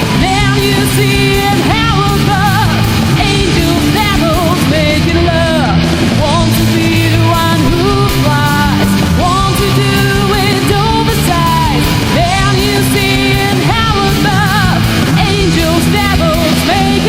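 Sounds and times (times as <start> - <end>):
alternative rock band playing: 0.0 - 17.0
drums: 0.0 - 17.0
sliding lead melody: 0.0 - 17.0.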